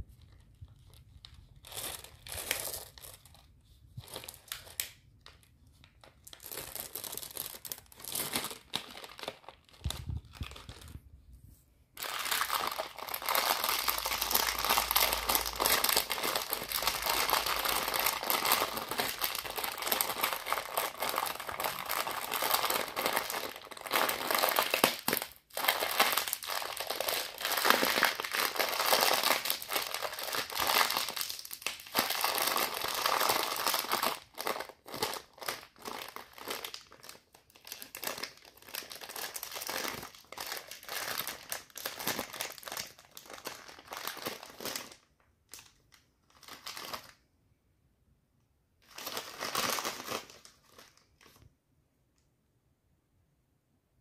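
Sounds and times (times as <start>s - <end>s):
plastic bag crinkling: 0.0s - 11.3s, 12.0s - 47.2s, 48.8s - 51.5s.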